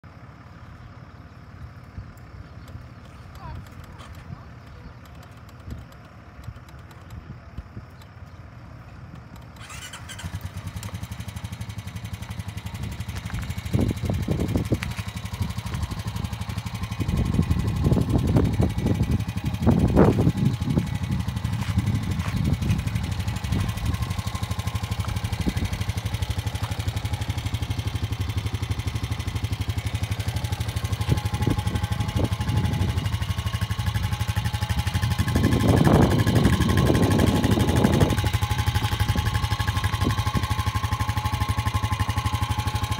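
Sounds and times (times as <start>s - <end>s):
atv engine starting and idling: 0.1s - 42.9s.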